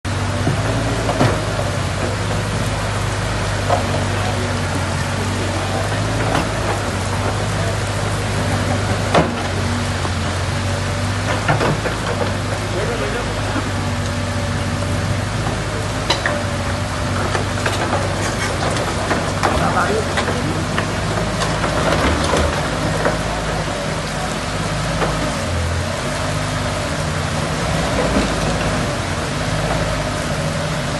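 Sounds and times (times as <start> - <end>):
heavy equipment engine hum: 0.0 - 30.9
heavy rain: 0.0 - 30.9.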